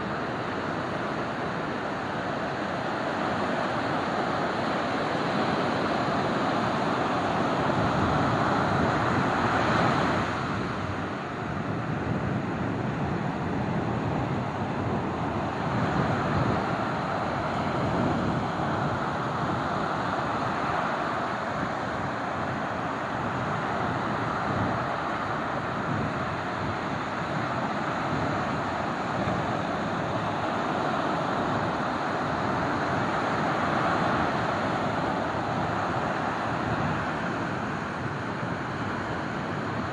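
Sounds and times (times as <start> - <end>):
ocean surf breaking: 0.0 - 39.9
wind on the microphone: 0.0 - 39.9.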